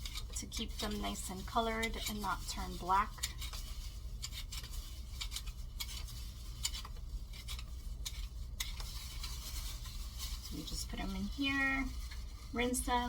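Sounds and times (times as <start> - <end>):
blade scraping potato skin: 0.0 - 13.0
steady low hum: 0.0 - 13.0.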